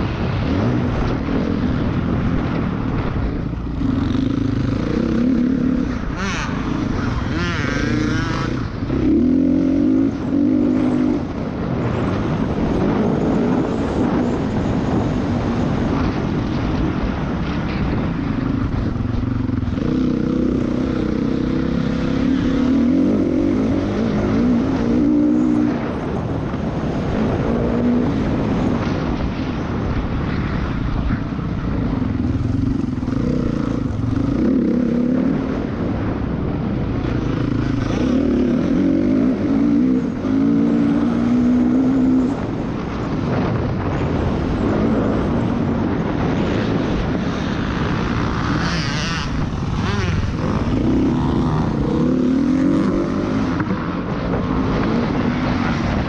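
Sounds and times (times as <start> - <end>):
dirt bike engine revving: 0.0 - 30.1, 31.6 - 56.0
wind noise on microphone: 0.0 - 56.0.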